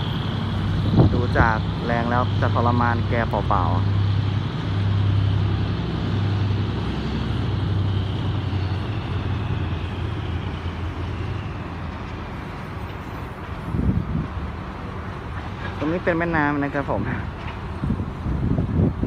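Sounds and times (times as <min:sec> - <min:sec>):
diesel locomotive drone: 0:00.0 - 0:19.0.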